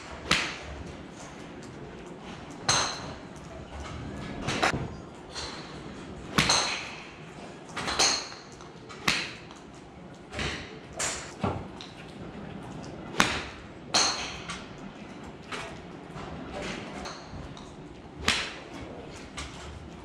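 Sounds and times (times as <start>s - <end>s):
golf clubs striking balls: 0.0s - 20.0s.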